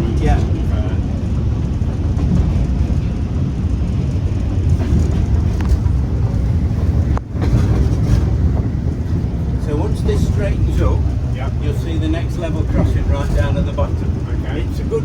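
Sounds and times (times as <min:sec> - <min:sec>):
diesel engine running: 0:00.0 - 0:15.0
train wheels drumming on track: 0:00.0 - 0:15.0.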